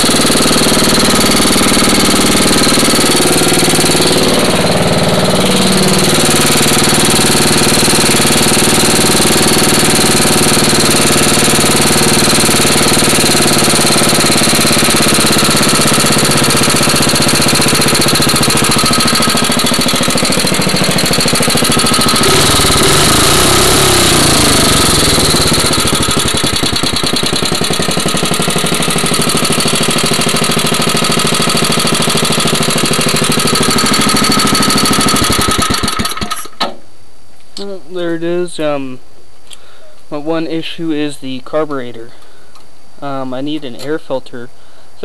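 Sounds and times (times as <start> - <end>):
small engine revving: 0.0 - 36.6.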